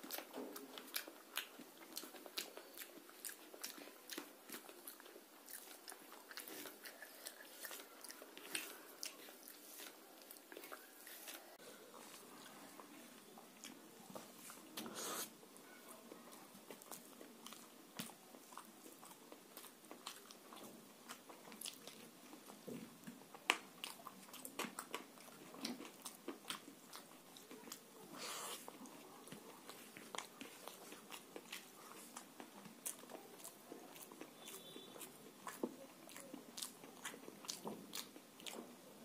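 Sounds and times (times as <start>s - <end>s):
wet chewing and lip-smacking: 0.0s - 38.9s.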